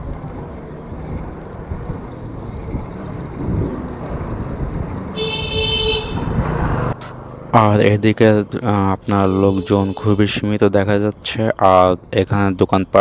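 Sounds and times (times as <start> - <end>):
road rumble: 0.0 - 13.0
wind: 0.0 - 13.0.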